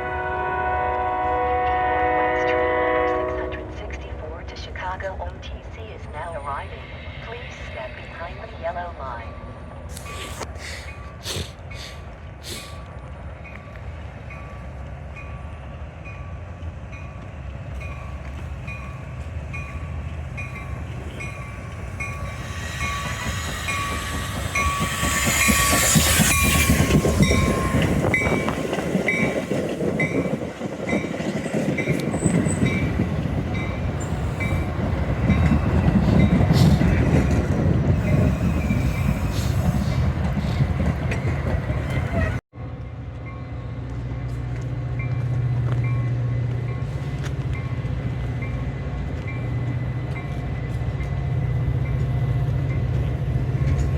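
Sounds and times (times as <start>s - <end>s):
rumble of passing train cars: 0.0s - 53.9s
train pulling into station: 1.5s - 53.9s.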